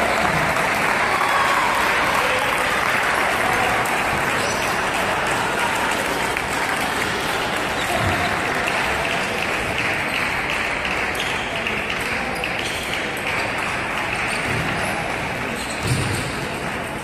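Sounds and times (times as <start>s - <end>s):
applause: 0.0s - 15.7s
crowd noise: 0.0s - 17.0s.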